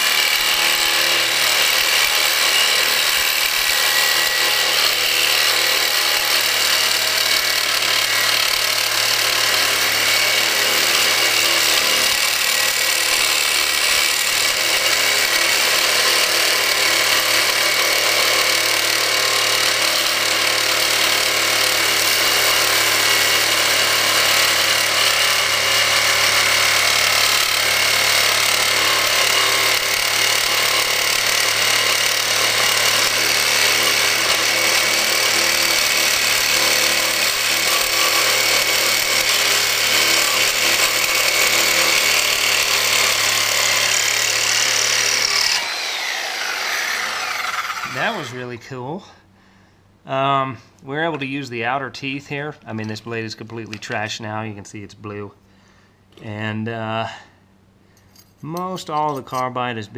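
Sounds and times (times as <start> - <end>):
reciprocating saw cutting metal: 0.0 - 48.5.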